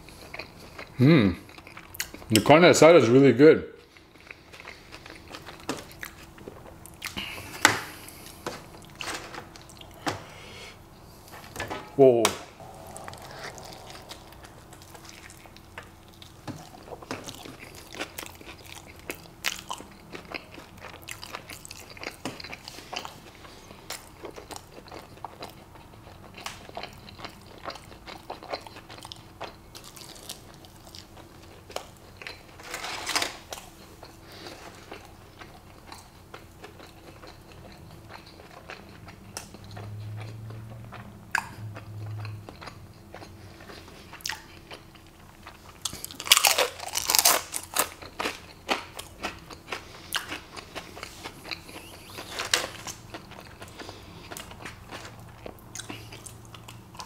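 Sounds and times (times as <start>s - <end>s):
person chewing food: 0.0s - 2.4s, 3.8s - 11.6s, 12.6s - 57.0s.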